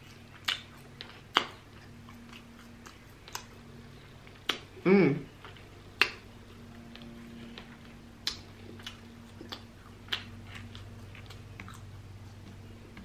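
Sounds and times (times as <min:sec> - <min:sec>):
chewing chicken: 0:00.0 - 0:13.0
low steady hum: 0:00.0 - 0:13.0.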